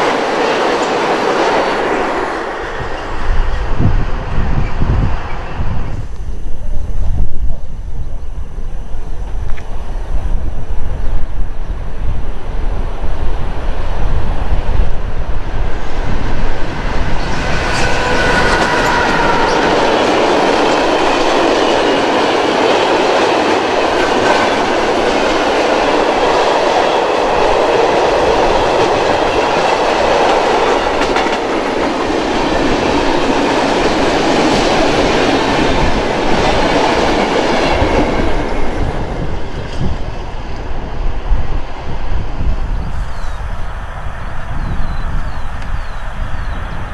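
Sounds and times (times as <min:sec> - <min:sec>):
train wheels rolling on rails: 0:00.0 - 0:46.9
wind rumble on microphone: 0:02.6 - 0:46.9.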